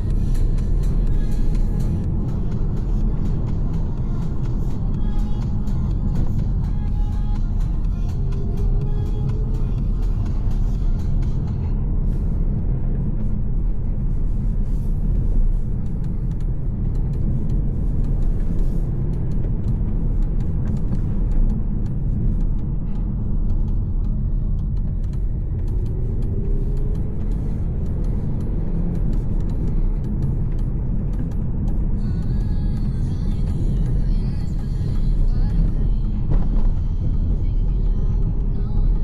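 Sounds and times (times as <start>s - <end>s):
car engine and road rumble: 0.0s - 39.0s.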